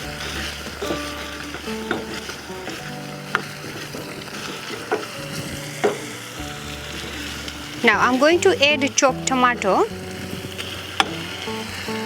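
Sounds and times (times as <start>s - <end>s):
food sizzling in oil: 0.0s - 12.0s
soft background music: 0.0s - 12.0s
spoon scraping a pan: 0.0s - 12.0s.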